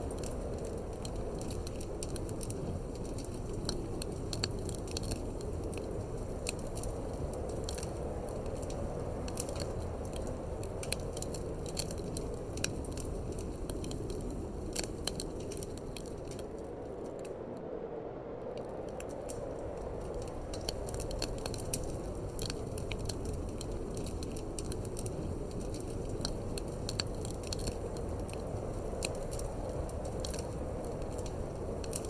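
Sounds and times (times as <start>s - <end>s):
wood fire crackling: 0.0s - 17.6s, 18.4s - 32.0s.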